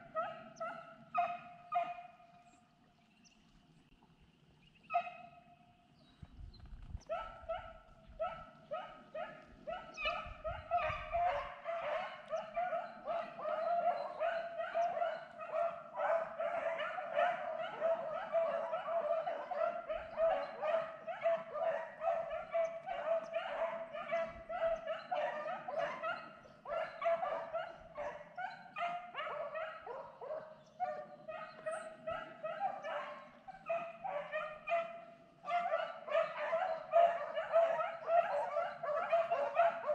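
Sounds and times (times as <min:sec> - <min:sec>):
pack of dogs baying: 0:00.0 - 0:02.2, 0:07.1 - 0:39.9.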